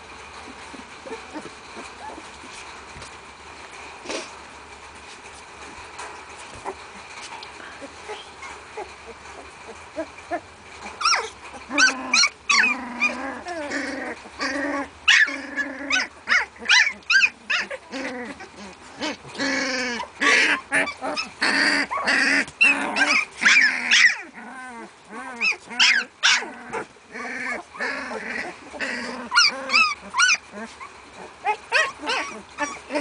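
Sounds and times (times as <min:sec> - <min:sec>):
puppies whining and yelping: 0:00.4 - 0:03.0, 0:06.4 - 0:33.0.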